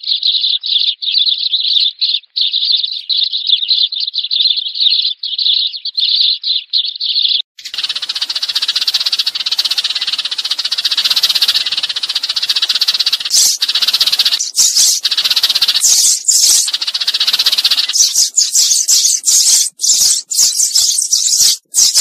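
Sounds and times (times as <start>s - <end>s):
sparrow chattering trill: 0.0s - 22.0s.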